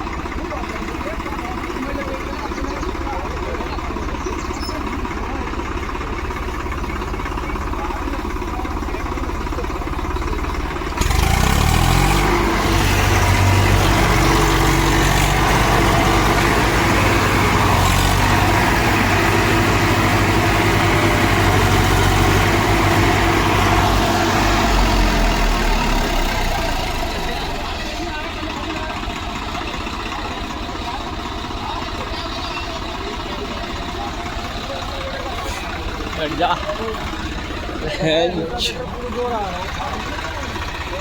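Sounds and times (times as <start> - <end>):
tractor diesel engine revving: 0.0 - 41.0.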